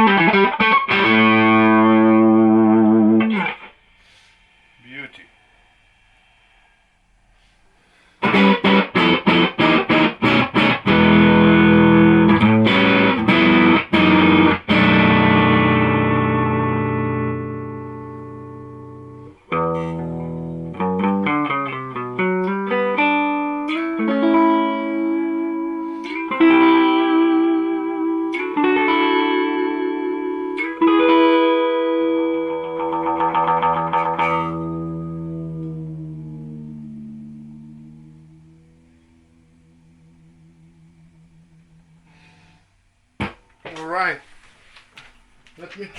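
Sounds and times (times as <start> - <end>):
electric guitar chords: 0.0 - 3.8, 8.2 - 42.6.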